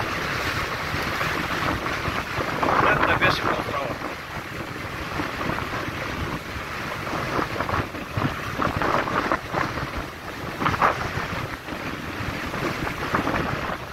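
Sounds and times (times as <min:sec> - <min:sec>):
waves breaking against pier: 0:00.0 - 0:13.9
wind buffeting microphone: 0:00.0 - 0:13.9.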